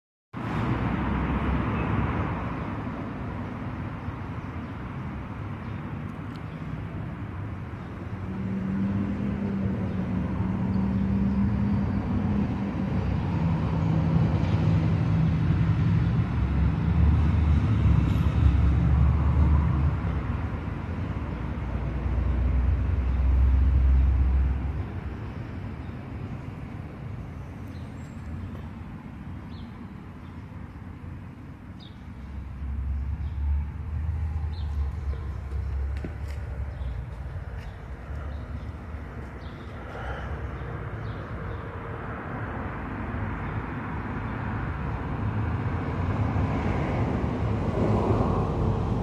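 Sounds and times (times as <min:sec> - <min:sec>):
vehicle engine humming: 0:04.9 - 0:49.0.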